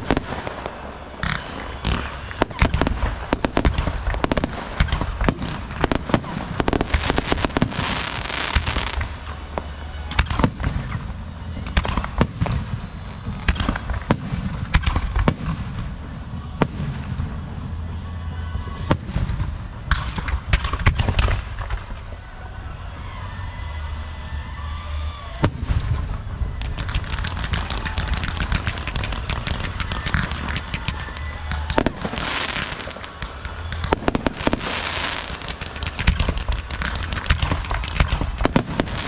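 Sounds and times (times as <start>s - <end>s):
fireworks crackling bangs: 0.0s - 23.2s, 24.8s - 39.0s.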